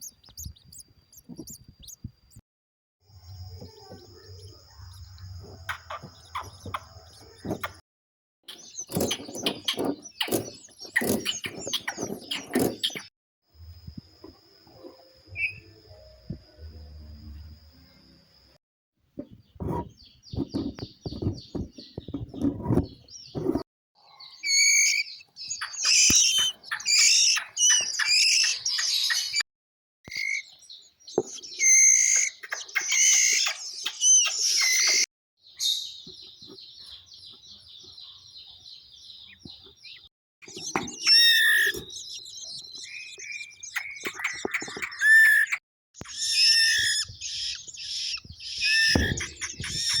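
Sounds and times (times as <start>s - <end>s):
nestlings chirping: 0.0s - 2.4s, 3.2s - 7.8s, 8.5s - 13.1s, 19.2s - 29.4s, 30.1s - 50.0s.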